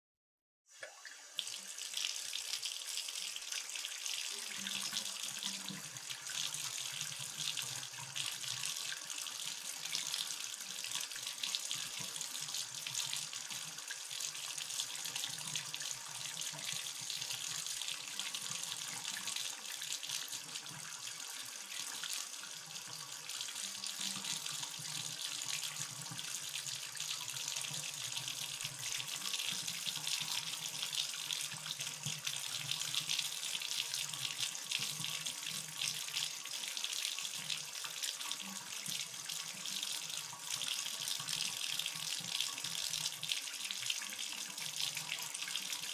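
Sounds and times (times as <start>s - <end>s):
bathtub faucet running: 0.7s - 45.9s.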